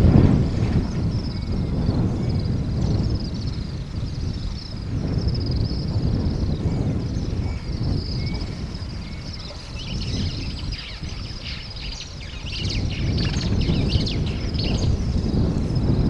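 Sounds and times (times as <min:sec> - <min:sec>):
birds chirping: 0:00.0 - 0:16.0
low rumbling noise: 0:00.0 - 0:16.0.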